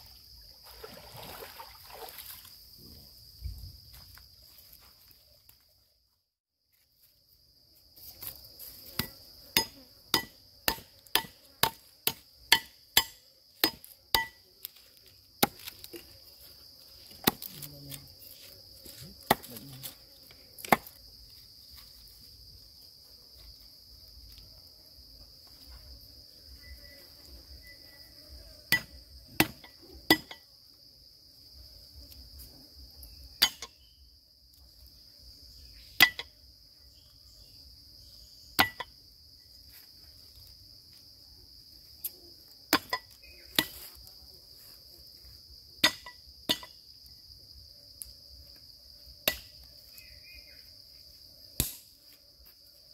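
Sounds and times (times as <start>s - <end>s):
insect chorus: 0.0s - 52.9s.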